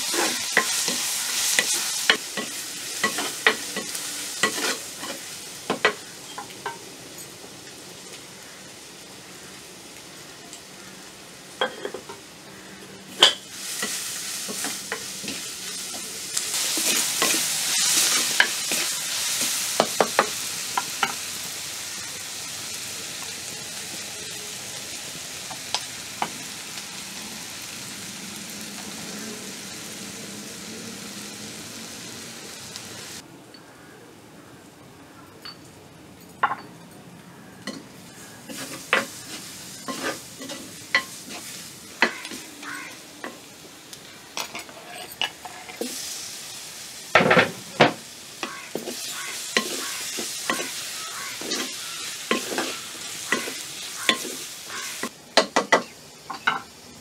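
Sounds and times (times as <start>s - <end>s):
food sizzling in pan: 0.0s - 33.2s, 37.3s - 57.0s.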